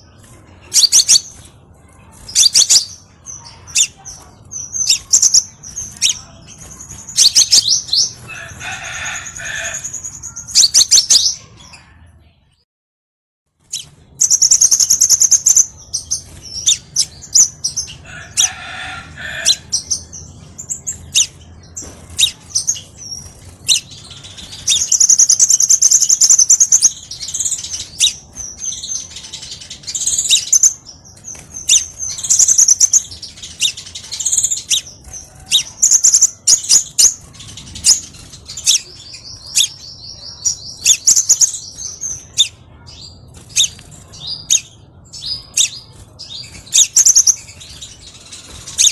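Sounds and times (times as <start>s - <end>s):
bird chirps and trills: 0.0s - 12.3s, 13.6s - 48.9s.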